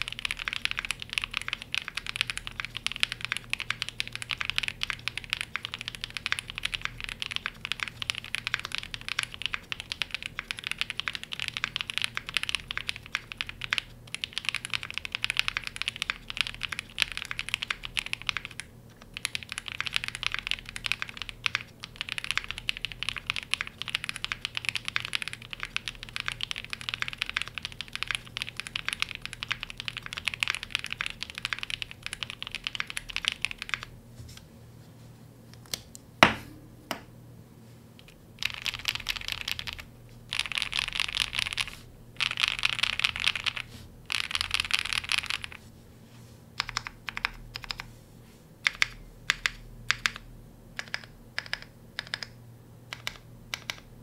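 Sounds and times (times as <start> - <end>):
mechanical keyboard typing: 0.0 - 33.9, 38.0 - 45.6, 46.6 - 47.9, 48.6 - 50.2, 50.8 - 54.0.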